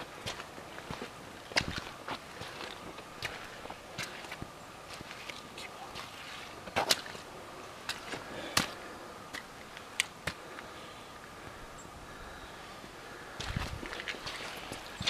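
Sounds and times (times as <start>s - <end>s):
footsteps on rocky trail: 0.0s - 10.7s, 13.4s - 15.0s.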